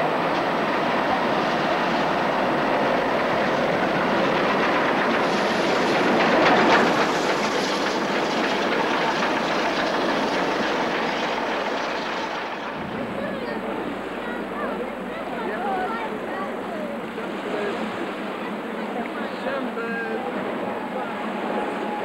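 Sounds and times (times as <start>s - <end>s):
wheels rattling on track: 0.0s - 19.6s
steam train passing: 0.0s - 22.0s.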